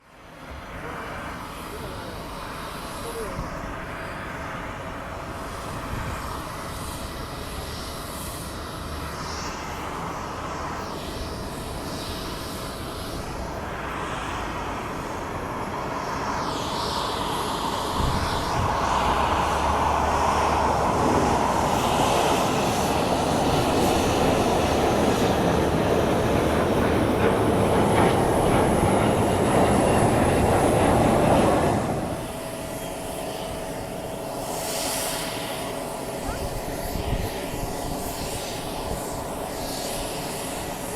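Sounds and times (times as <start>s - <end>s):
jet engines rushing: 0.2s - 40.9s.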